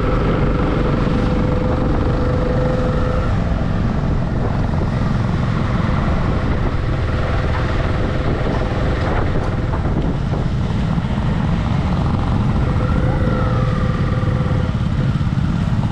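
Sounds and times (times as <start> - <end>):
motorcycle engine running: 0.0 - 15.9
wind rumbling on microphone: 0.0 - 15.9.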